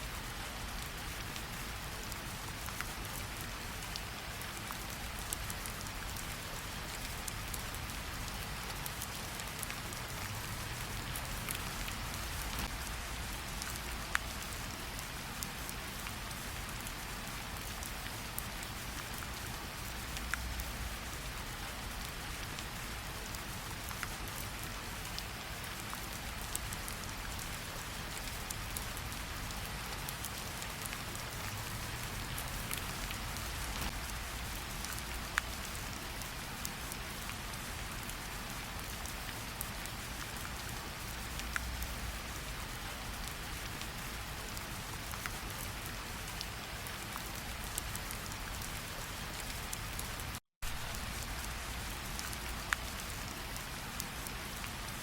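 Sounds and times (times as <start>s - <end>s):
steady rain falling: 0.0s - 55.0s
raindrops ticking close by: 0.1s - 55.0s.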